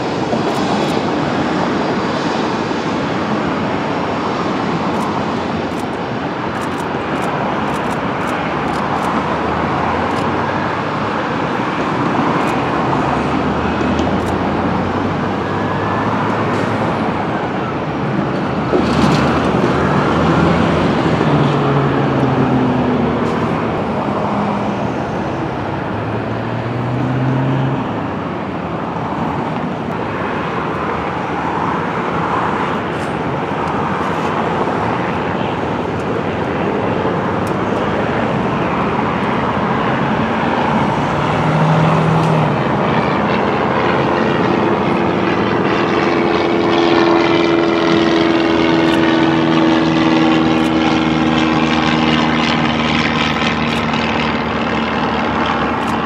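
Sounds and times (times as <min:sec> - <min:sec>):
aircraft engines running: 0:00.0 - 0:56.0.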